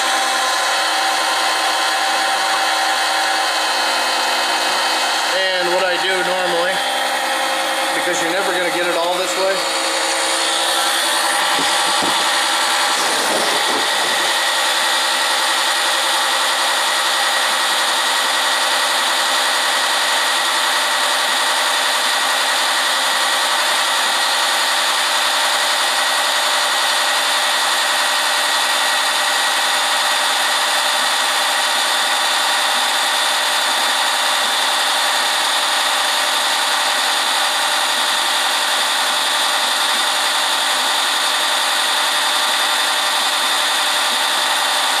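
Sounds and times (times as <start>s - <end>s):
oil pump motor whine: 0.0s - 45.0s.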